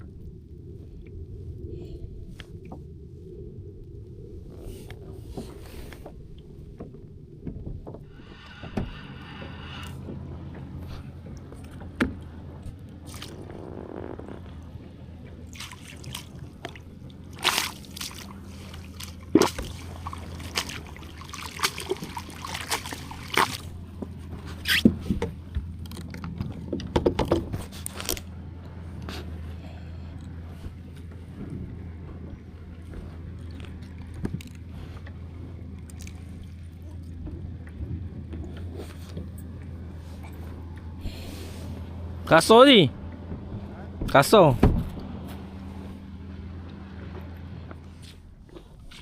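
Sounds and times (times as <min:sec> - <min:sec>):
low hum: 0:00.0 - 0:49.0
water sloshing around a kayak: 0:00.0 - 0:49.0.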